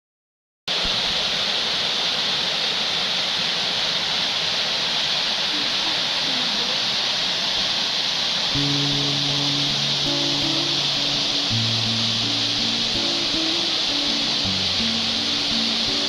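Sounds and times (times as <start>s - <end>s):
waterfall rushing: 0.7s - 16.0s.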